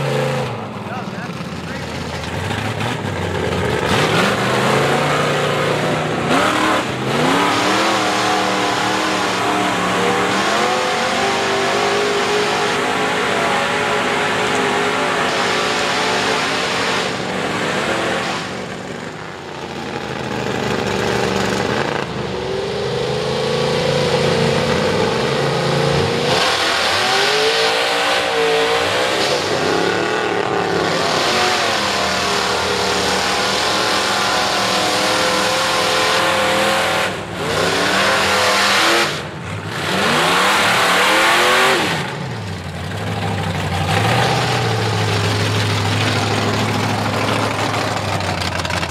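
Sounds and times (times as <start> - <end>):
tires churning through mud: 0.0 - 48.9
truck engine revving hard: 0.0 - 48.9.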